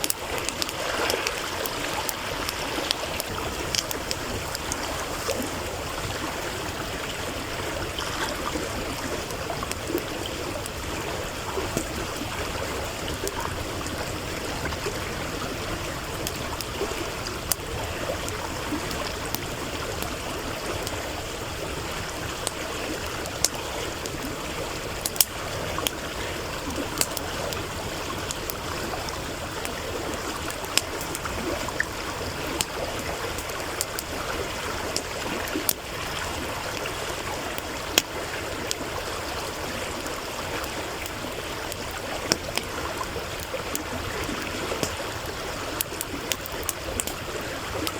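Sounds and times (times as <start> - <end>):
campfire popping and crackling: 0.0 - 47.9
stream running: 0.0 - 47.9.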